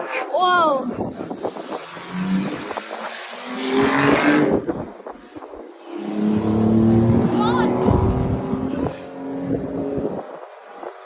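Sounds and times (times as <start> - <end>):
race car engines passing: 1.0 - 11.0.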